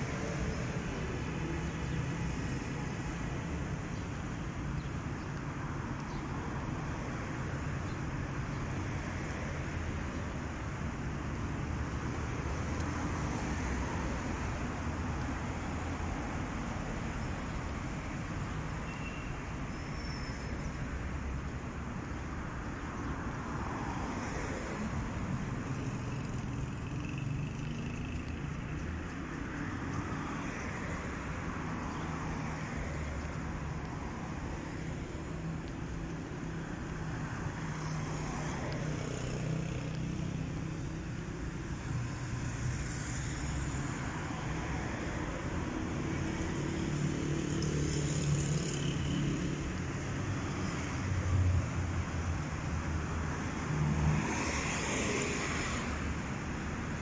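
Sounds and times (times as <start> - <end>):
city road traffic rumble: 0.0 - 57.0.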